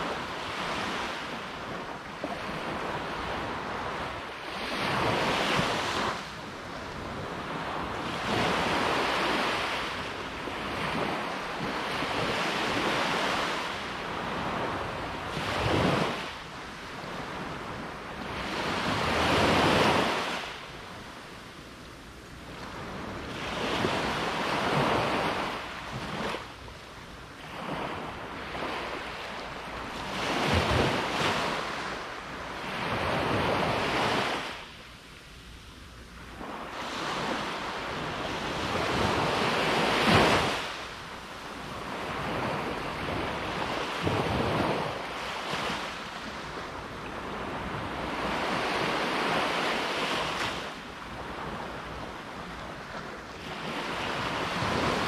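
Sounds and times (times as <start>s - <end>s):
sea waves breaking on shore: 0.0s - 21.5s, 22.4s - 35.0s, 36.2s - 55.0s
wind rumble on microphone: 0.0s - 55.0s.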